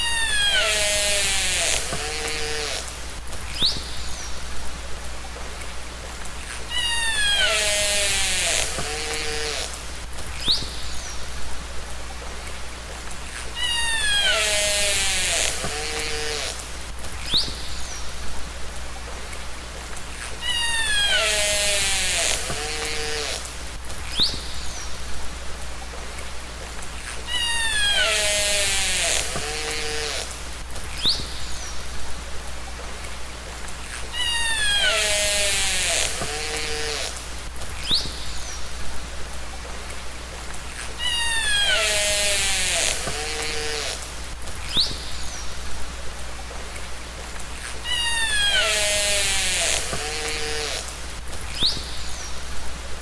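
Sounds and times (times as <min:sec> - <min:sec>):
background hiss: 0:00.0 - 0:53.0.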